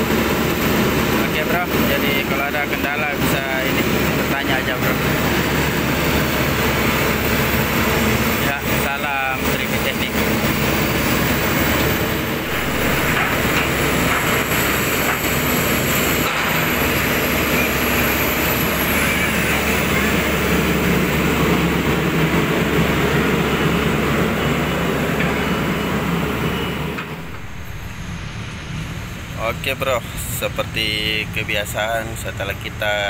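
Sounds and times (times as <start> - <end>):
faint high whine: 0.0 - 32.3
diesel engine running: 0.0 - 33.0.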